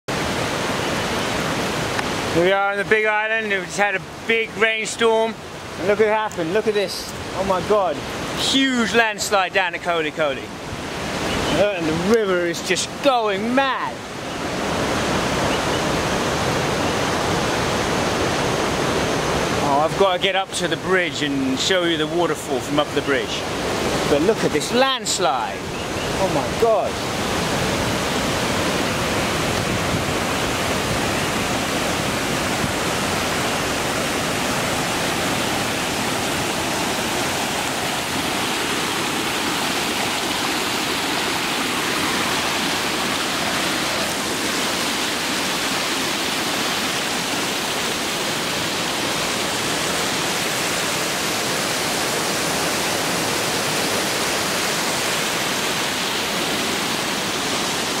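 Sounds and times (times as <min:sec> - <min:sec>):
floodwater rushing: 0:00.1 - 0:58.0.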